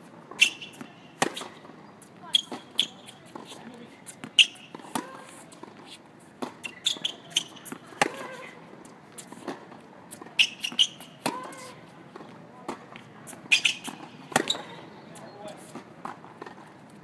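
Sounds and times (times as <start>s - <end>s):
tennis shoes squeaking on court: 0.3s - 16.7s.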